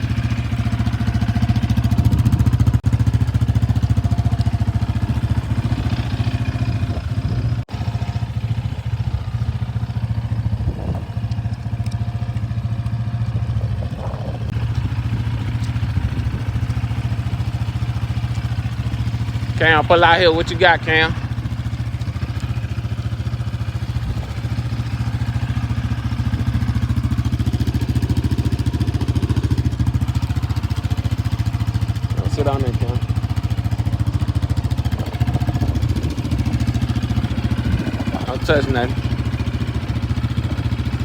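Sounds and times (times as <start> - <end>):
engine idling: 0.0 - 41.0.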